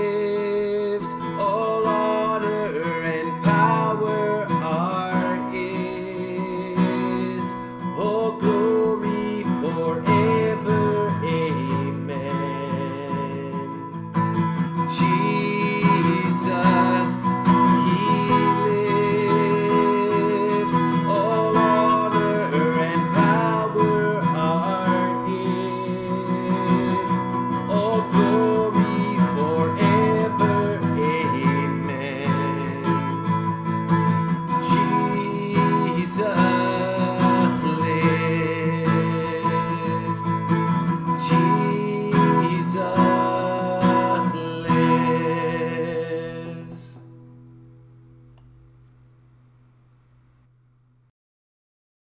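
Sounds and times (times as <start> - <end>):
acoustic guitar strumming: 0.0 - 49.8.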